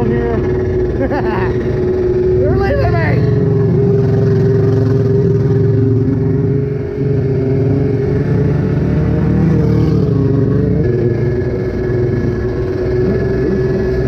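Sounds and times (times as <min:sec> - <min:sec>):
jet ski engine putting: 0:00.0 - 0:14.0.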